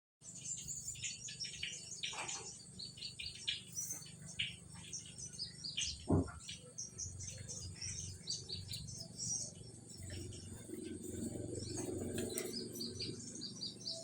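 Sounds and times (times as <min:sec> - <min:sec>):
birds chirping: 0:00.2 - 0:14.0
low steady hum: 0:00.2 - 0:14.0.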